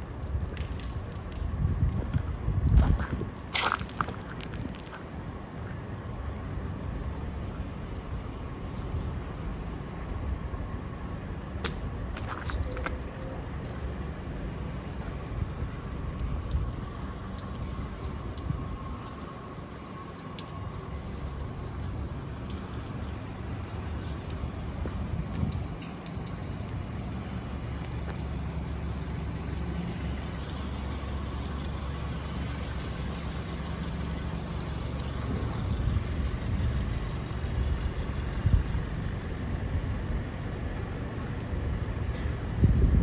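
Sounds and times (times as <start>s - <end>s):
low traffic rumble: 0.0s - 43.0s.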